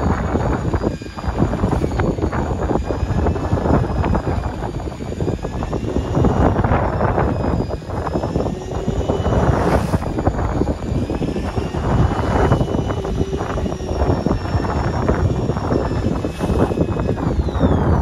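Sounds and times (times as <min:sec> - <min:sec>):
boat engine droning: 0:00.0 - 0:18.0
faint high whining tones: 0:00.0 - 0:18.0.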